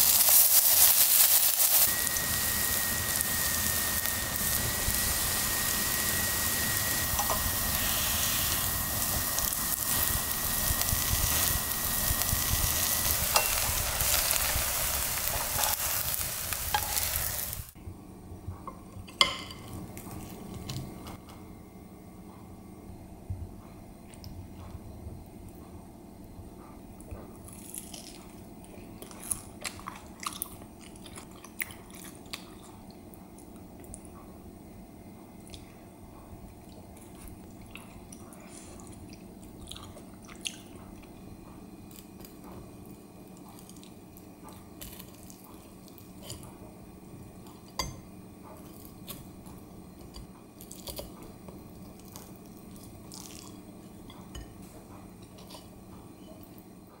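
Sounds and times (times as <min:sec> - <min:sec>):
steady low hum: 0:01.8 - 0:57.0.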